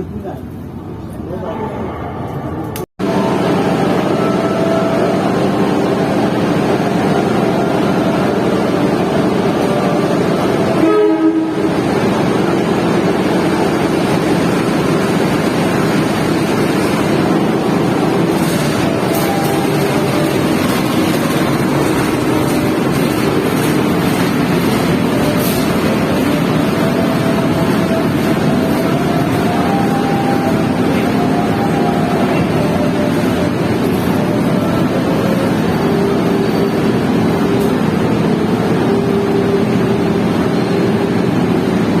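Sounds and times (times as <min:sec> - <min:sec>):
train rumbling at speed: 0:00.0 - 0:42.0.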